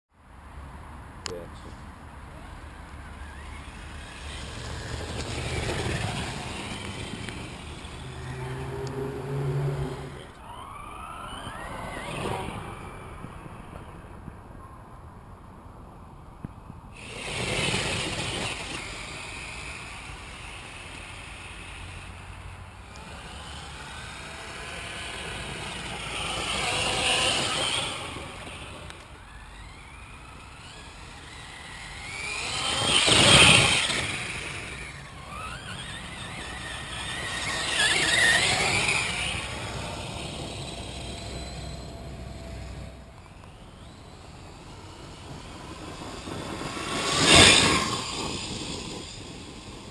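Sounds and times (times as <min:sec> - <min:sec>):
electric rc truck motor whining: 0:02.8 - 0:14.3, 0:17.0 - 0:49.9.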